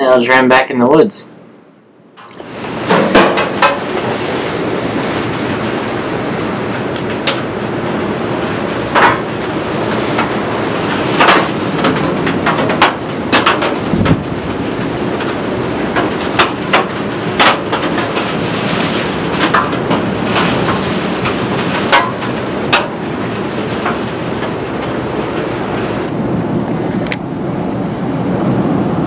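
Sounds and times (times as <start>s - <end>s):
strong wind over microphone: 2.2s - 29.0s.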